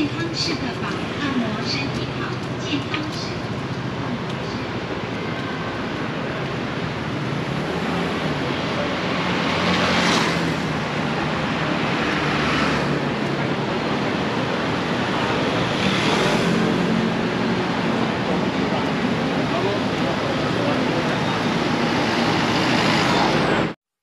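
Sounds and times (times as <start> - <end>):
scooters and cars passing: 0.0 - 23.8.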